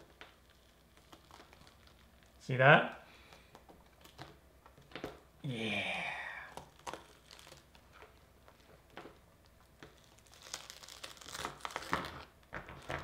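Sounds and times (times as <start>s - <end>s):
fruit husk tearing: 0.0s - 2.5s, 4.9s - 13.0s.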